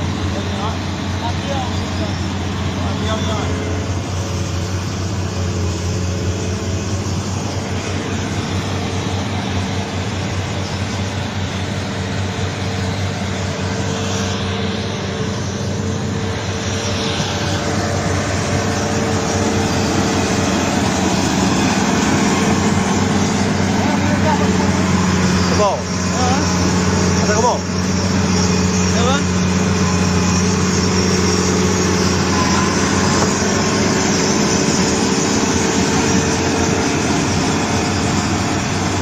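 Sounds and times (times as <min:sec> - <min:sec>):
diesel engine droning: 0:00.0 - 0:39.0.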